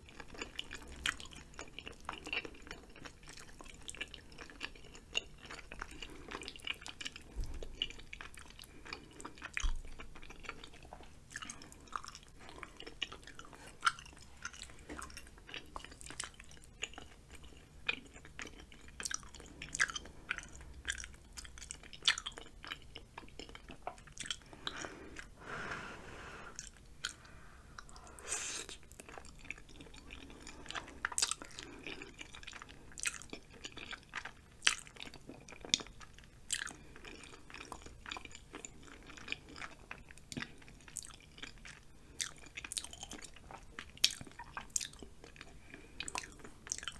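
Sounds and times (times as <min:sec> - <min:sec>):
close chewing with mouth smacks: 0:00.0 - 0:25.3, 0:26.6 - 0:46.9.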